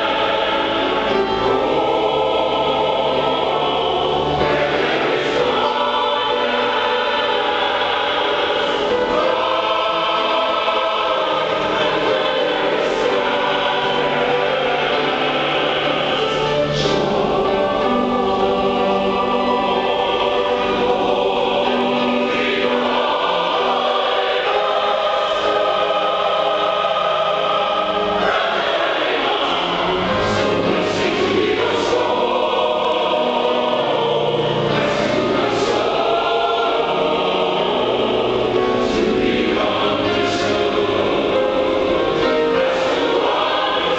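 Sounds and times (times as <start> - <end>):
choir singing in harmony: 0.0 - 43.9.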